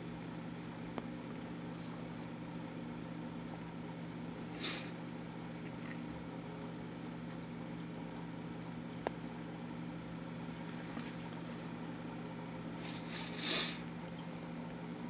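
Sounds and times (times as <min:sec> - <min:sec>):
aquarium motor hum: 0:00.0 - 0:15.0.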